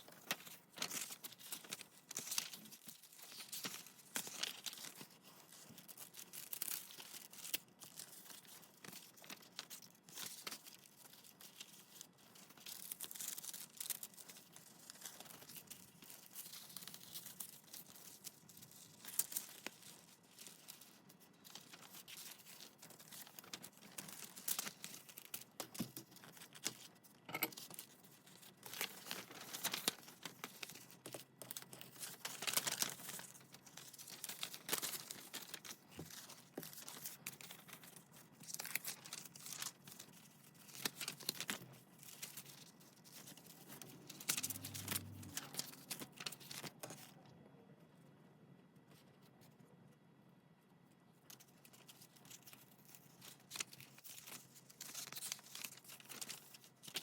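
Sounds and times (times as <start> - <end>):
paper rustling and crinkling: 0.0 - 47.2, 51.2 - 57.0.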